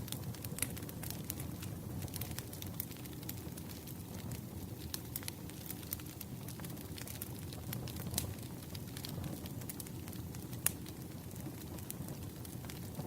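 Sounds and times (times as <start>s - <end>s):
campfire crackling: 0.0s - 13.0s
wood fire popping: 0.0s - 13.0s.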